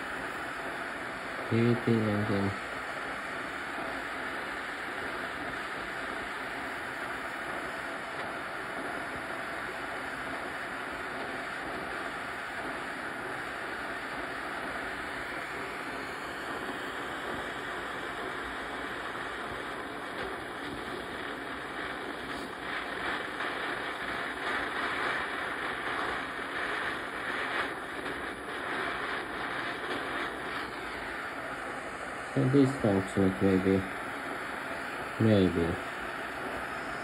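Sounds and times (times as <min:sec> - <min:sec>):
gas torch flame hissing: 0:00.0 - 0:37.0.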